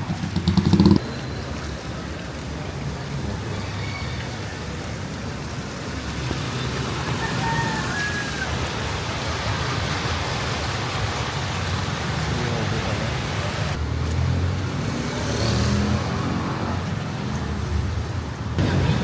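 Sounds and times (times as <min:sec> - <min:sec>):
low traffic rumble: 0:00.0 - 0:19.0
rain on wet street: 0:00.0 - 0:19.0.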